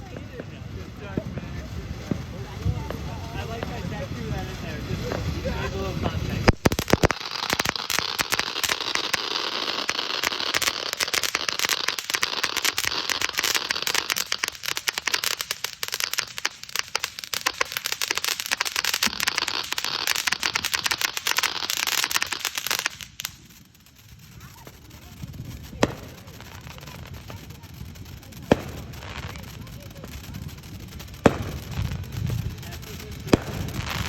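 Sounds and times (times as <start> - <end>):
firework fountain hissing and crackling: 0.0 - 34.0.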